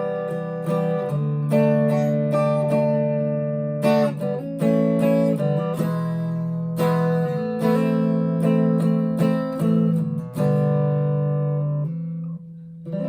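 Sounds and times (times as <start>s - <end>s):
electric guitar strumming chords: 0.0s - 13.0s.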